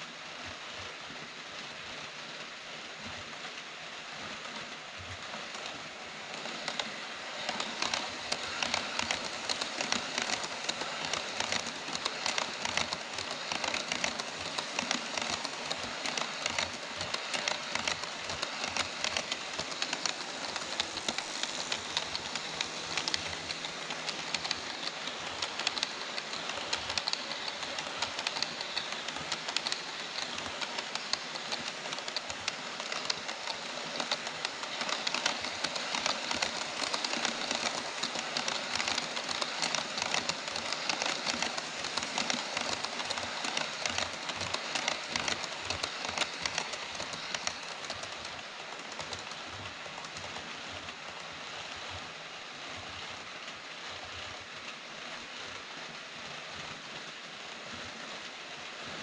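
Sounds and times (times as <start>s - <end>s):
model train wheels clattering: 4.2s - 52.2s.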